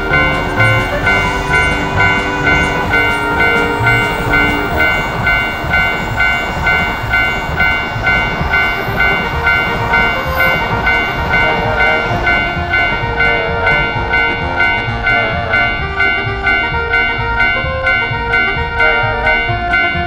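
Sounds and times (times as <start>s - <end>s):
passing train rumble: 0.0s - 20.0s
railroad crossing bell ringing: 0.0s - 20.0s.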